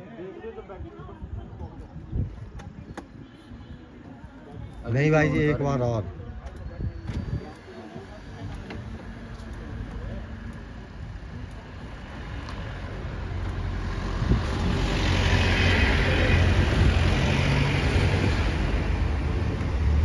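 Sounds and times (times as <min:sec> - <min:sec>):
vehicle engine and road noise: 0:01.2 - 0:20.0.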